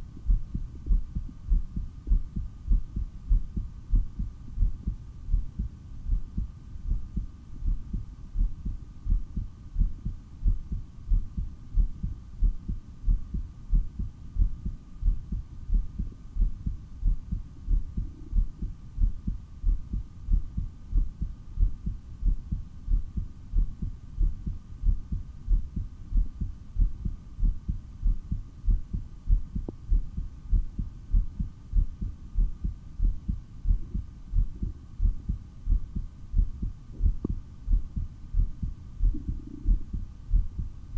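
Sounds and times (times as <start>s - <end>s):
heartbeat through stethoscope: 0.0s - 40.8s
faint steady hum: 0.0s - 40.9s.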